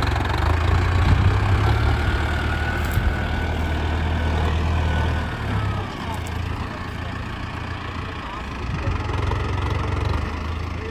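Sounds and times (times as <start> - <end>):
tractor diesel engine rumbling: 0.0 - 10.9.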